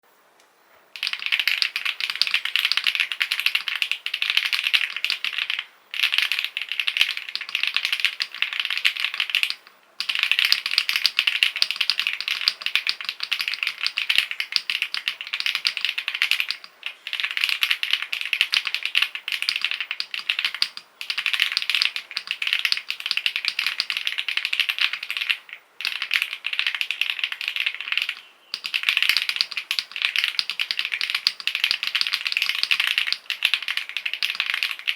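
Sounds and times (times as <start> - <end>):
fast typing on mechanical keyboard: 1.0 - 34.9.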